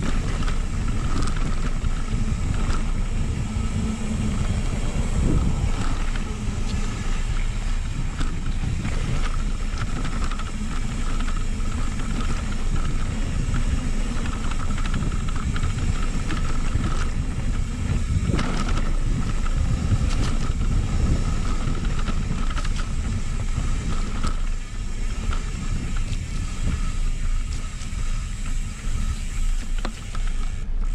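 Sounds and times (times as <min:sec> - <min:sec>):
bike rattles and clicks: 0:00.0 - 0:30.9
bike tyres on dirt: 0:00.0 - 0:30.9
wind rumble on microphone: 0:00.0 - 0:30.9.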